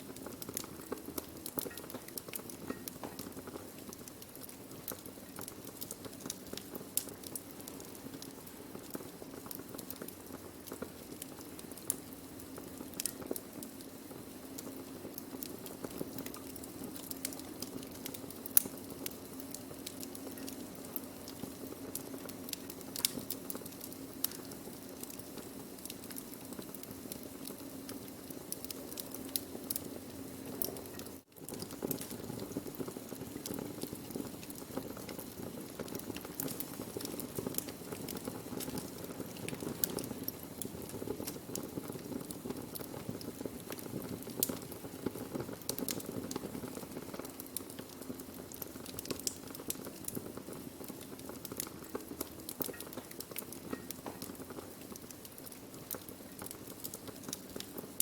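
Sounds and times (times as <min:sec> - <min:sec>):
hiss and rumble of flames: 0:00.0 - 0:58.0
wood fire popping and snapping: 0:00.0 - 0:58.0.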